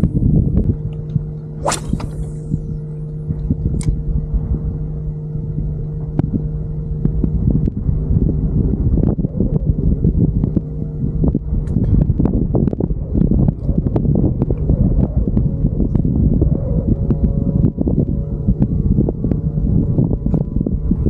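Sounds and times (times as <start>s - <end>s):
low rumble: 0.0s - 21.0s
motor humming: 0.0s - 21.0s.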